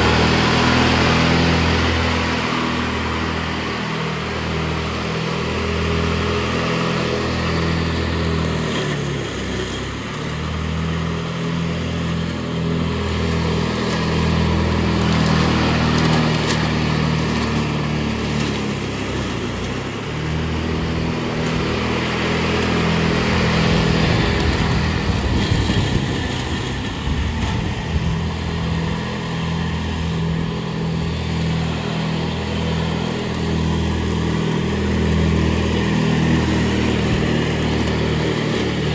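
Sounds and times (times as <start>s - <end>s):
riding lawn mower engine: 0.0s - 38.9s.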